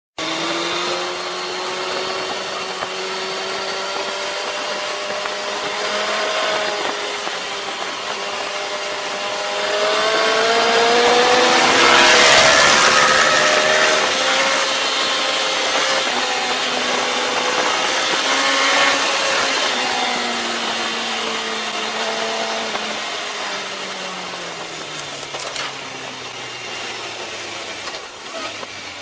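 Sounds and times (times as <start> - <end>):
motorcycle engine at high revs: 0.2 - 29.0.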